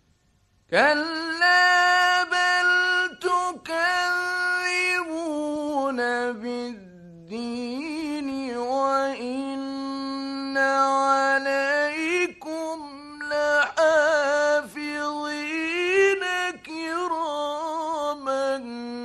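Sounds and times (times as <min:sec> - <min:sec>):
man reciting melodically: 0:00.7 - 0:19.0.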